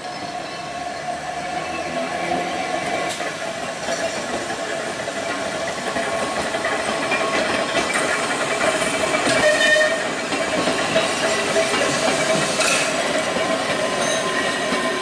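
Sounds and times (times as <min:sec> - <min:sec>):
electric tram running on track: 0:00.0 - 0:15.0.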